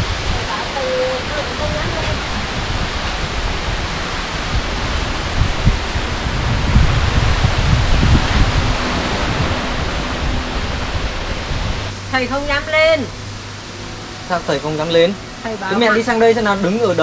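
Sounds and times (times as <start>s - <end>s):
wind buffeting microphone: 0.0s - 14.0s
steady rushing noise: 0.0s - 17.0s.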